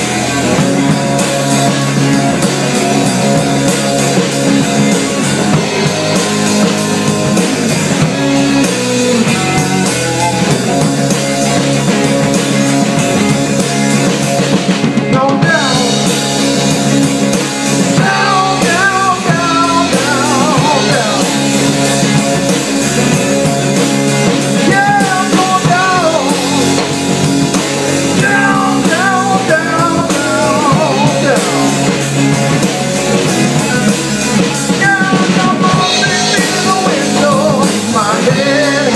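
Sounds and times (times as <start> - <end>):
blues band playing: 0.0 - 38.9.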